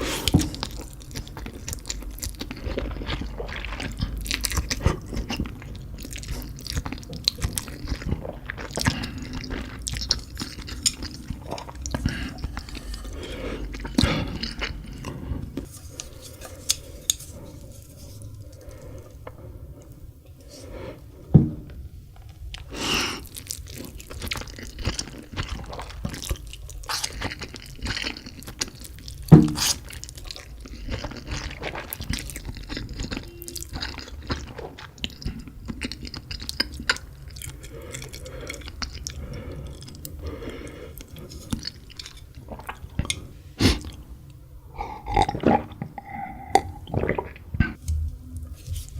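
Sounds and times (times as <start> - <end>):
chewing noodles: 0.0 - 20.7, 22.2 - 48.9.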